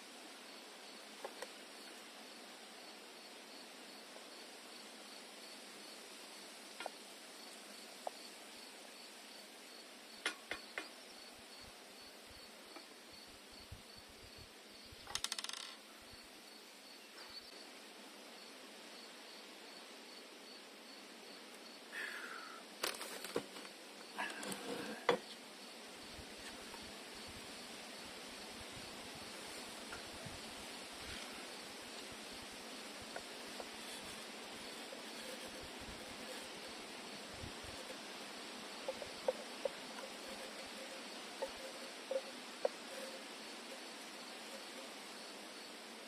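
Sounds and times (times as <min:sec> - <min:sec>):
insects chirping: 0:00.0 - 0:46.0
outdoor hiss: 0:00.0 - 0:46.0.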